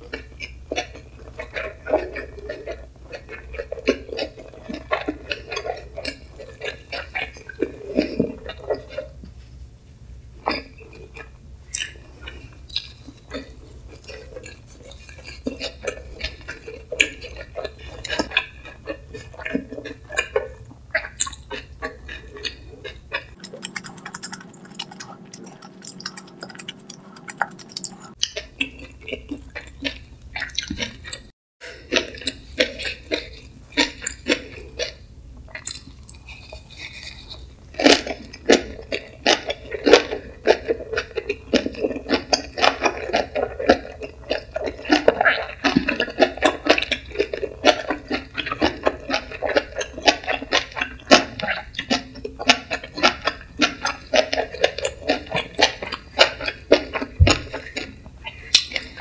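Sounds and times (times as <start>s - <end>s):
wet chewing: 0.0s - 9.5s, 10.4s - 59.0s.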